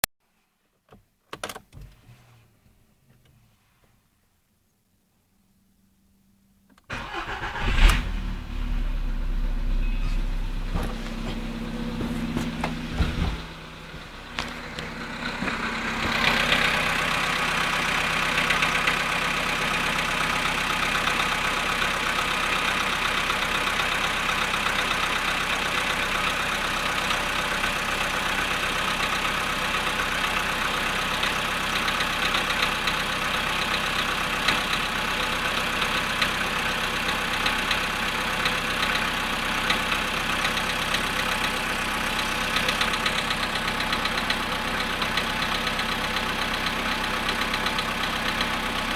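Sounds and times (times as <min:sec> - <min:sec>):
car engine idling with knocking: 0:07.0 - 0:48.9.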